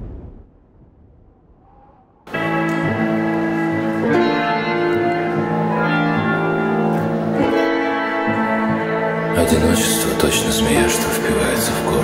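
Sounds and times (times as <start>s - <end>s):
instrumental music with held chords: 2.3s - 12.0s.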